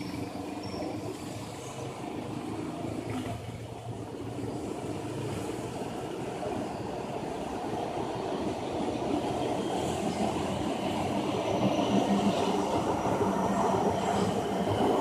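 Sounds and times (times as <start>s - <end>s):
electric train rumbling: 0.0s - 15.0s
road traffic: 0.0s - 15.0s.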